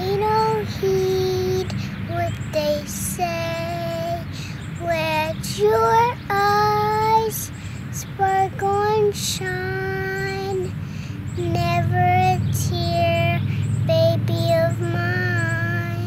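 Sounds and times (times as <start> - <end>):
boy singing held notes: 0.0 - 16.0
steady low hum: 0.0 - 16.0.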